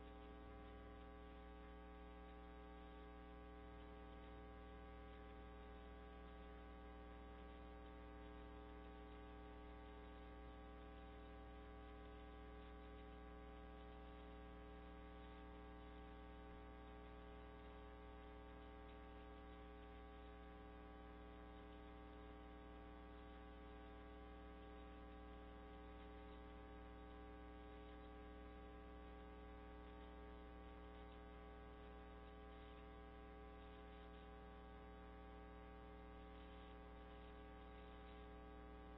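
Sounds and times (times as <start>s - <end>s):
faint electrical mains hum: 0.0s - 38.9s.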